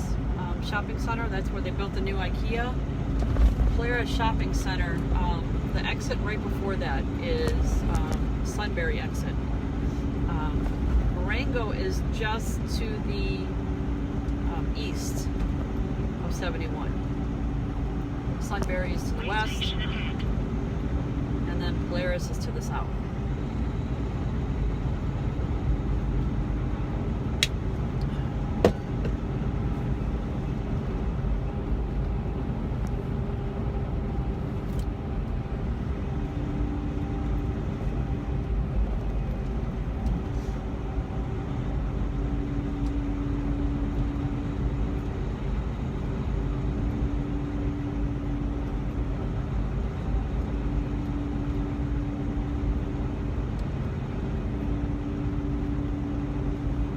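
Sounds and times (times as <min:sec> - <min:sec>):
truck engine and tyre drone: 0:00.0 - 0:56.9.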